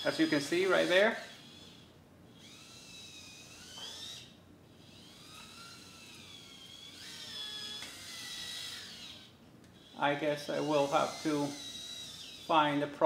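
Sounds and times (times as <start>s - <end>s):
servo motors whining: 0.0s - 12.7s.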